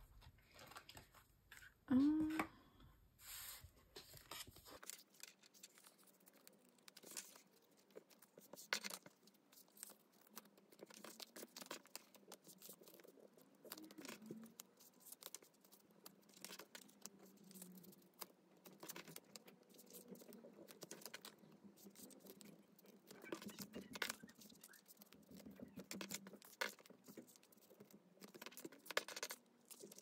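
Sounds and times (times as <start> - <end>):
cards rustling and clicking: 4.0 - 30.0.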